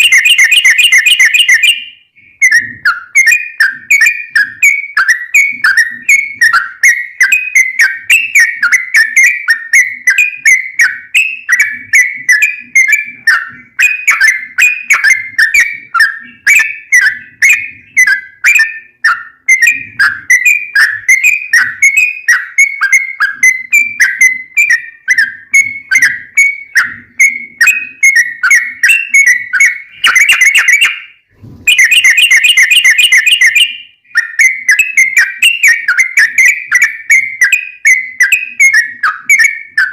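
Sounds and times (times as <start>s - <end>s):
bird whistled chirps: 0.0s - 39.9s.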